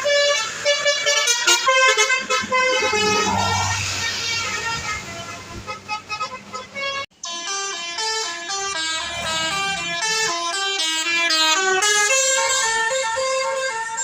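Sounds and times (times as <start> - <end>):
bus musical horn playing a tune: 0.0 - 14.0.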